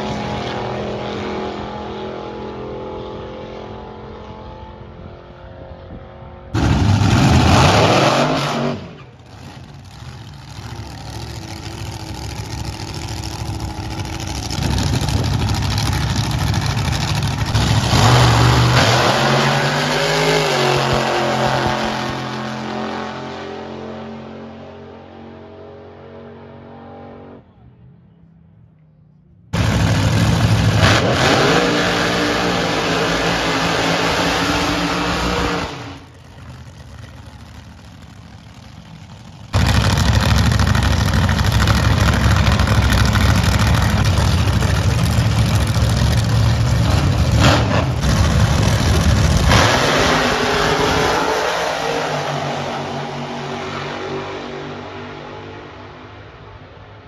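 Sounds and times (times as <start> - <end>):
drag racing engines revving: 0.0 - 27.9, 29.1 - 56.9.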